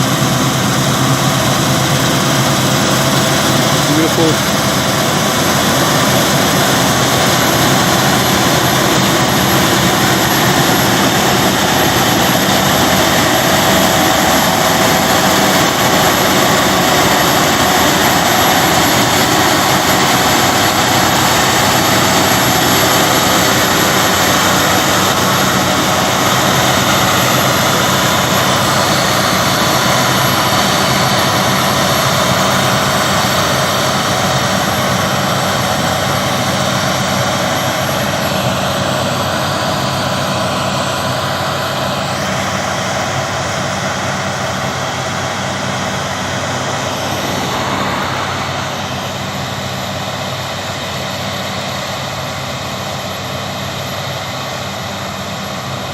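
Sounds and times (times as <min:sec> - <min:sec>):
machine whining tones: 0:00.0 - 0:52.1
combine harvester drone: 0:00.0 - 0:55.9.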